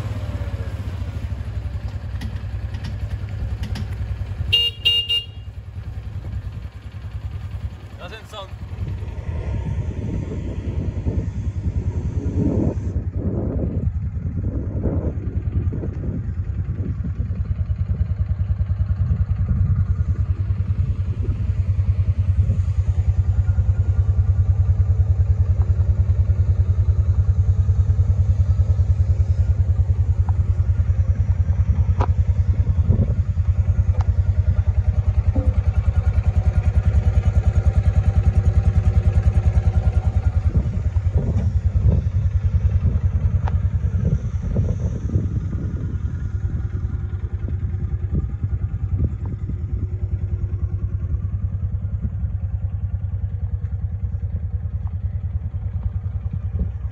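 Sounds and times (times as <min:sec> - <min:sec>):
utility vehicle engine idling: 0:00.0 - 0:56.9.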